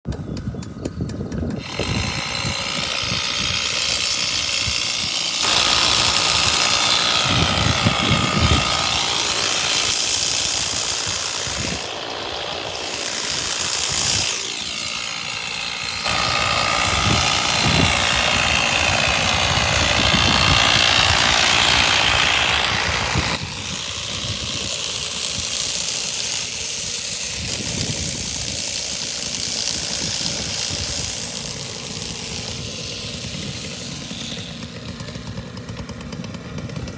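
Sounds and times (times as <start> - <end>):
construction machinery engine running: 0.1 - 36.9.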